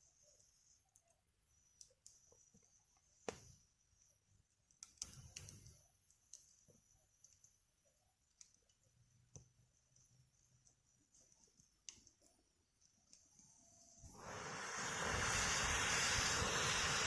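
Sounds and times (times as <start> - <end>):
small wood fire crackling: 0.0 - 17.0.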